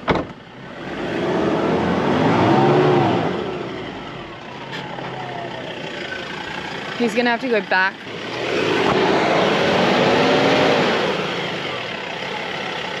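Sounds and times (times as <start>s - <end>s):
truck engine revving under load: 0.0s - 13.0s.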